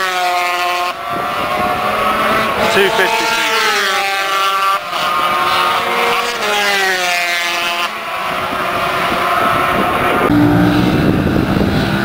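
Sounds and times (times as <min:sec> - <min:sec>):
racing motorcycles passing: 0:00.0 - 0:12.0.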